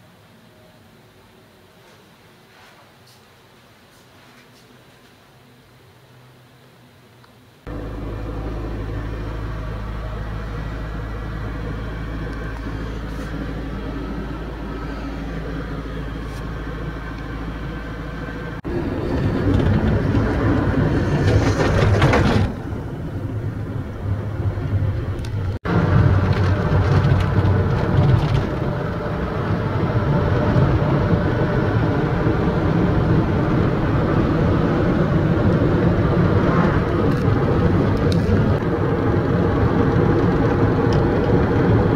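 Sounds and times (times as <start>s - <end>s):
boat engine humming: 7.7s - 41.9s.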